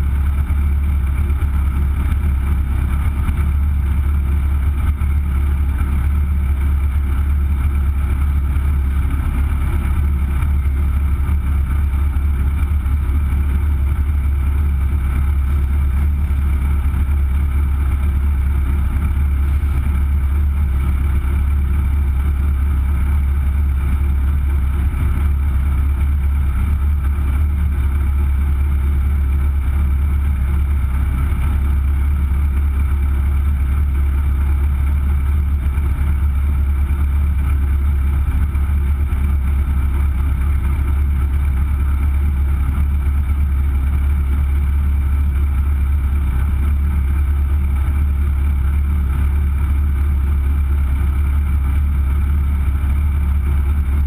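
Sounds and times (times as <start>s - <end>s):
race car engine idling: 0.0s - 54.0s.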